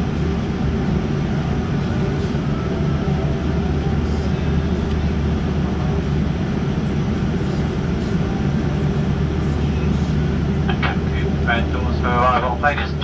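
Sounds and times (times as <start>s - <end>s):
aircraft cabin hum and rumble: 0.0s - 13.0s.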